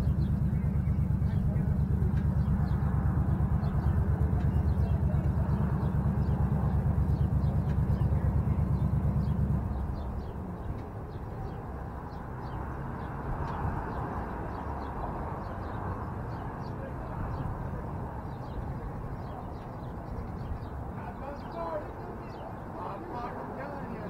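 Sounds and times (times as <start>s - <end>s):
motorcycle engine idling: 0.0s - 22.8s.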